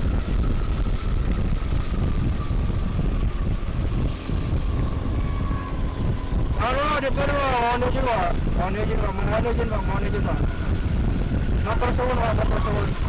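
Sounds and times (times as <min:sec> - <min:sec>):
wind and road rumble: 0:00.0 - 0:13.0.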